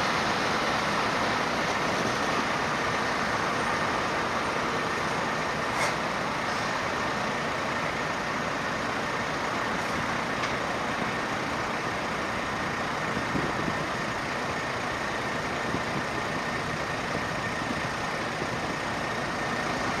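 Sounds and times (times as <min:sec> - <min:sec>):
buses idling and pulling away: 0:00.0 - 0:20.0.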